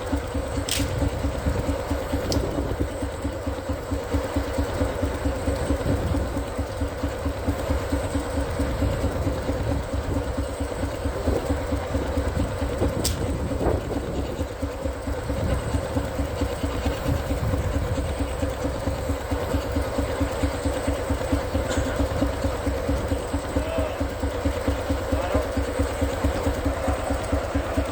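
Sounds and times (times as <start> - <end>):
steam engine exhaust chuffing: 0.0 - 27.9.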